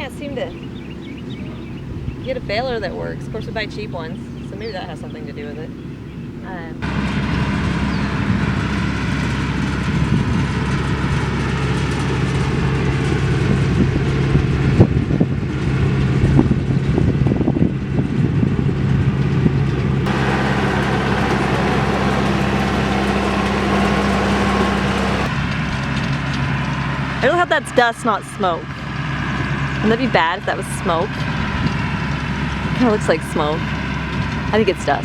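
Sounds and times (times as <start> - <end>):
tractor engine droning: 0.0 - 35.0.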